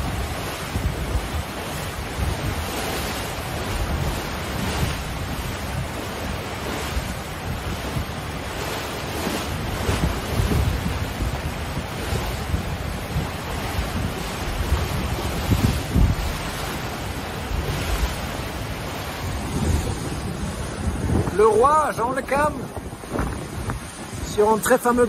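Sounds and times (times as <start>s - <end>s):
sea waves rushing: 0.0s - 25.0s
wind buffeting microphone: 0.0s - 25.0s.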